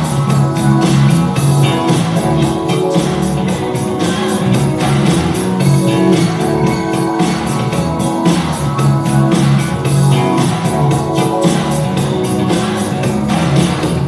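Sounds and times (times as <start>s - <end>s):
rock music over loudspeakers: 0.0s - 14.0s.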